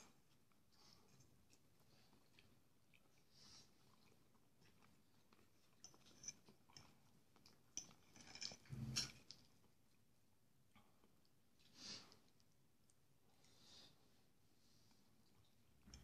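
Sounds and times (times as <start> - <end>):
faint chewing: 0.0 - 16.0.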